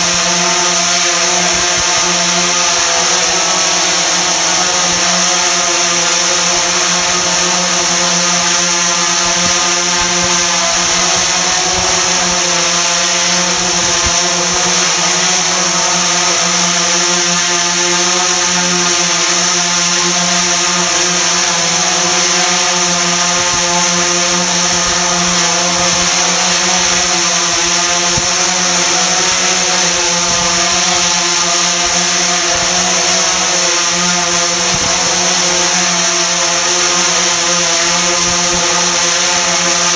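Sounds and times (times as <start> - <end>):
drone propellers buzzing whine: 0.0 - 39.9.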